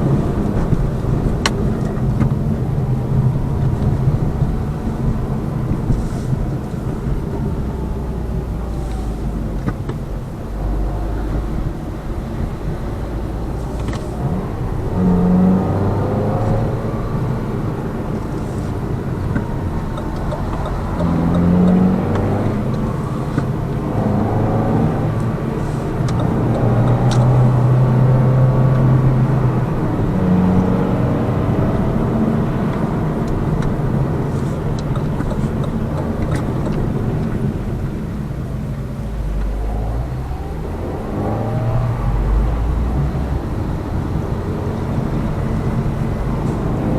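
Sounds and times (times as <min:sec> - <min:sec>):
car engine running: 0:00.0 - 0:46.9
tyre and road rumble: 0:00.0 - 0:46.9.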